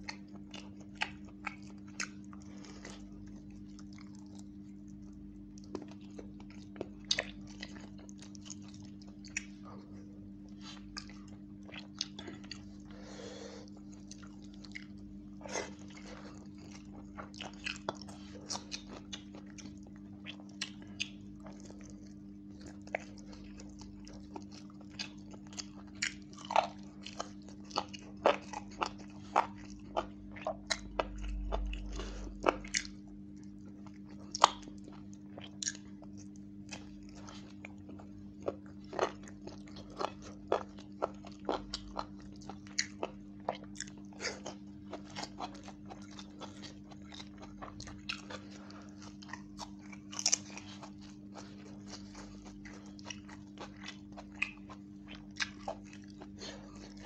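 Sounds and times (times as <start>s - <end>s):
man chewing and lip-smacking: 0.0s - 57.0s
steady low hum: 0.0s - 57.0s.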